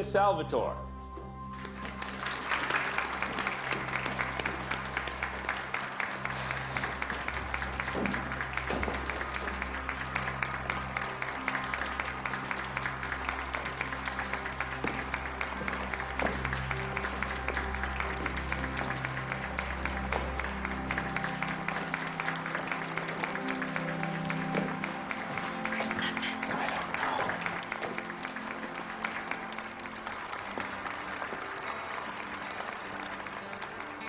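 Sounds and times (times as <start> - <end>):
soft background music: 0.0 - 34.0
crowd applauding: 1.4 - 34.0.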